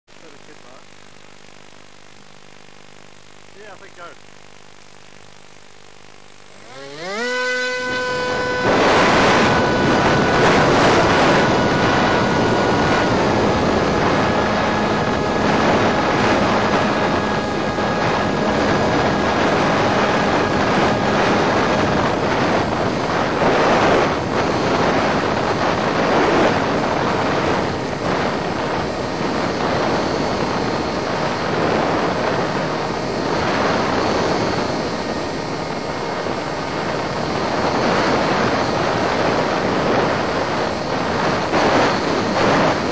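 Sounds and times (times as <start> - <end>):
electric motor whine: 0.1 - 42.9
heavy wind rush: 6.0 - 42.9.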